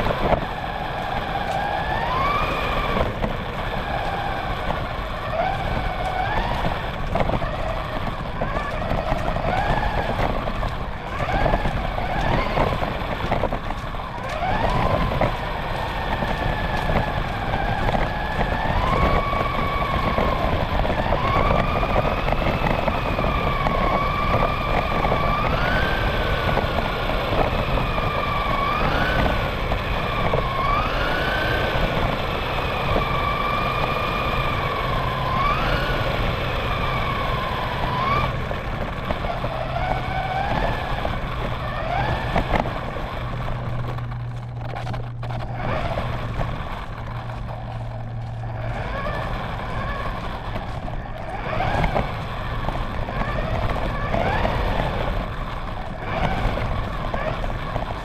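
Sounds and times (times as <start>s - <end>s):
toy car motor whining: 0.0s - 58.0s
tyres rumbling on pavement: 0.0s - 58.0s.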